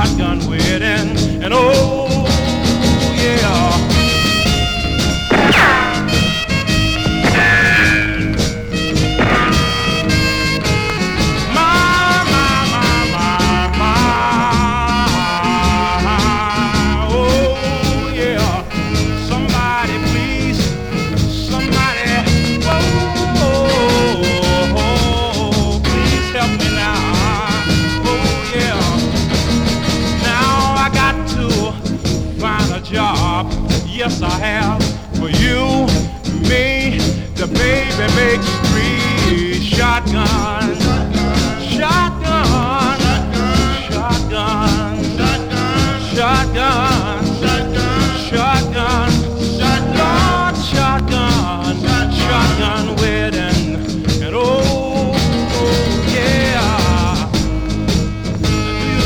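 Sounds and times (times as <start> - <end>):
instrumental rhythm and blues: 0.0 - 59.0.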